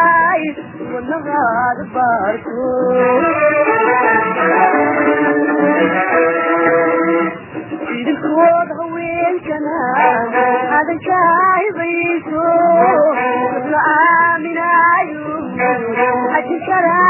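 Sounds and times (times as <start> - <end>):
person singing a melody: 0.0 - 5.0, 7.9 - 17.0
instrumental accompaniment: 0.0 - 17.0.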